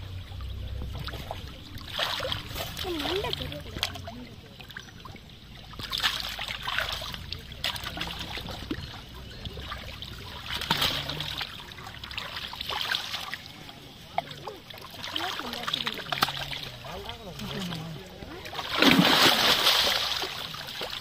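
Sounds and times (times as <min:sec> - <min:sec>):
fish thrashing in water: 0:00.0 - 0:21.0
water splashing and sloshing: 0:00.0 - 0:21.0.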